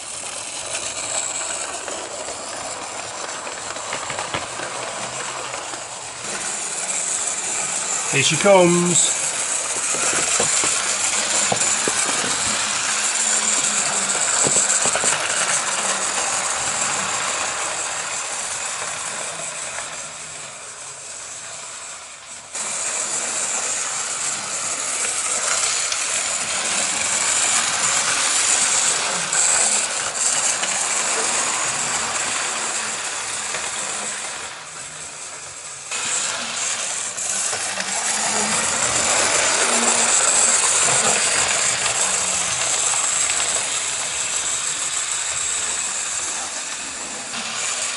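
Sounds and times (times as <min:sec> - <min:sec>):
model train motor whirring: 0:00.0 - 0:47.9
wheels rattling over rails: 0:00.0 - 0:47.9.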